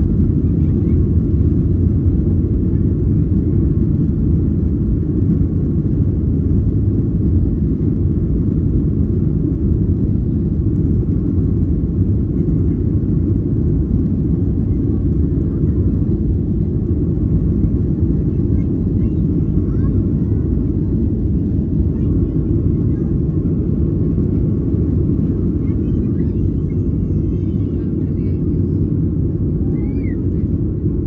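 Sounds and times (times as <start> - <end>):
jet engine rumble in cabin: 0.0 - 31.0.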